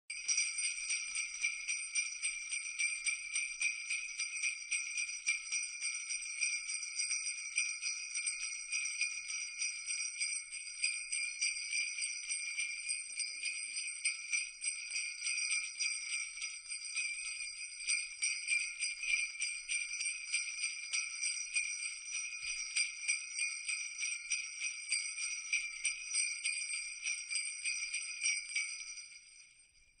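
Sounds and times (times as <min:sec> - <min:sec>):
jingle bells shaken: 0:00.1 - 0:30.0.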